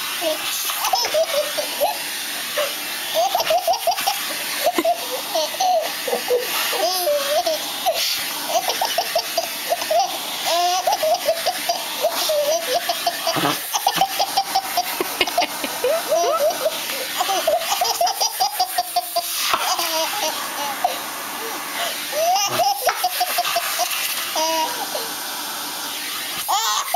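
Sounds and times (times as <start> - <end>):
vacuum cleaner hissing: 0.0 - 26.9
baby laughing and squealing: 0.2 - 25.2, 26.4 - 26.9.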